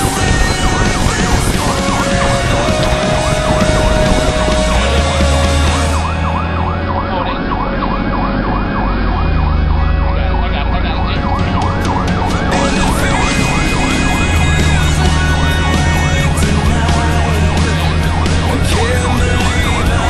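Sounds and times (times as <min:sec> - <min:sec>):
electronic siren yelping: 0:00.0 - 0:20.0
engine and road rumble: 0:00.0 - 0:20.0.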